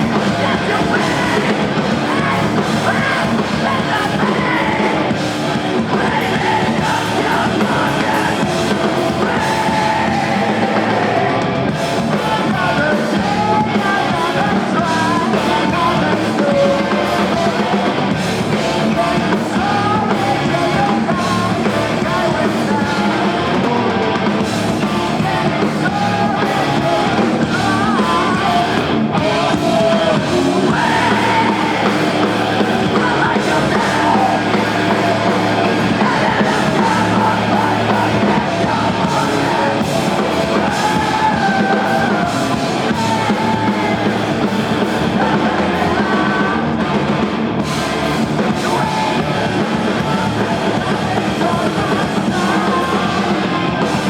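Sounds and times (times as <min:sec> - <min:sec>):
person singing: 0:00.0 - 0:54.0
rock band playing live: 0:00.0 - 0:54.0.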